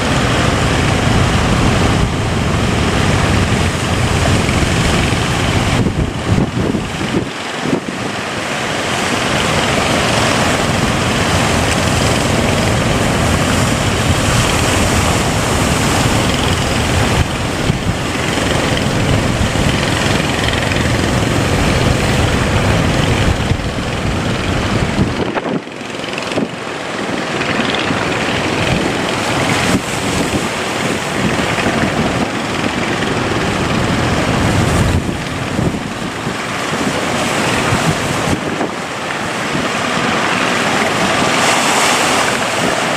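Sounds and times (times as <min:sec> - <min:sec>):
sea waves rushing: 0:00.0 - 0:42.9
wind buffeting microphone: 0:00.0 - 0:42.9.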